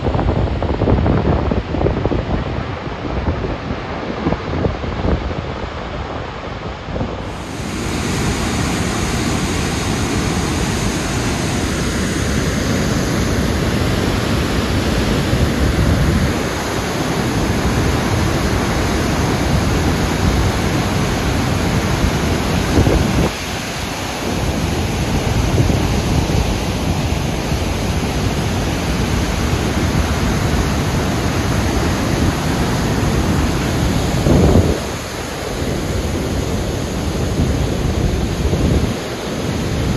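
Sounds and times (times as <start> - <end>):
waterfall rushing: 0.0 - 39.9
wind on microphone: 0.0 - 39.9.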